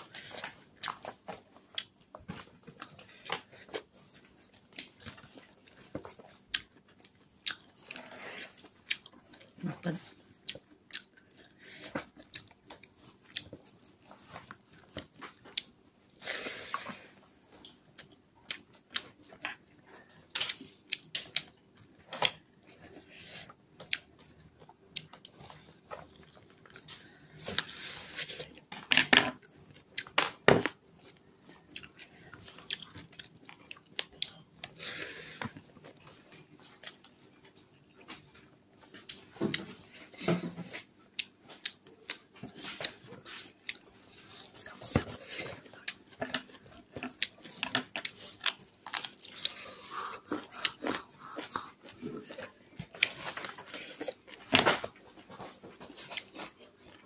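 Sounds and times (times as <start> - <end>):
person chewing and mouth smacking: 0.0 - 54.5, 55.3 - 57.0.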